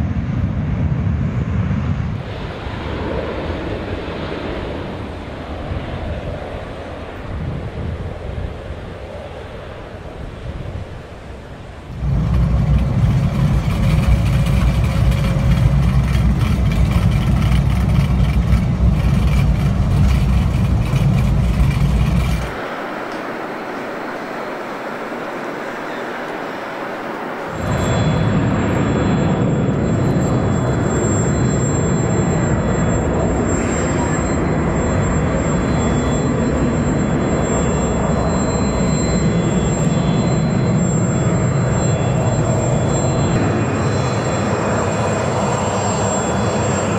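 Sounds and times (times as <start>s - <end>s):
engine whine: 0.0s - 46.9s
jet engines deep rumble: 0.0s - 46.9s.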